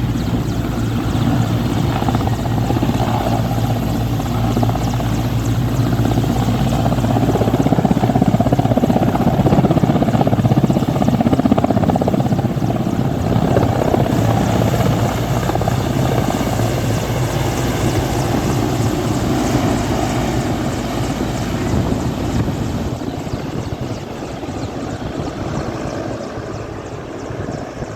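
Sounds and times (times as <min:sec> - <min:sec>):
helicopter rotor beating: 0:00.0 - 0:27.9.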